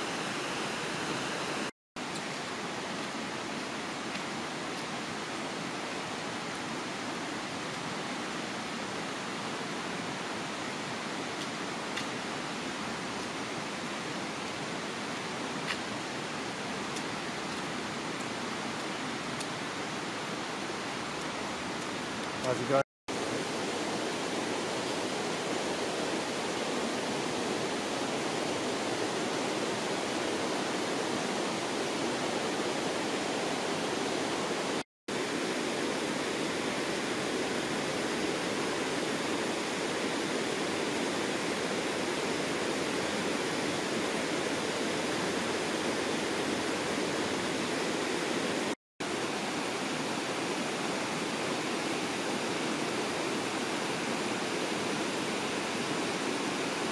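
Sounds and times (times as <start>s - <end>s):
creek rushing over rocks: 0.0s - 56.9s.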